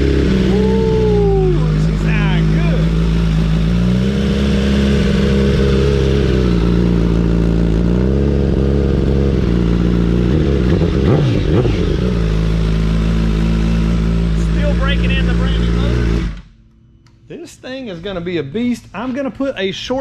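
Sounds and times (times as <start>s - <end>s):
motorcycle engine idling and revving: 0.0s - 16.6s.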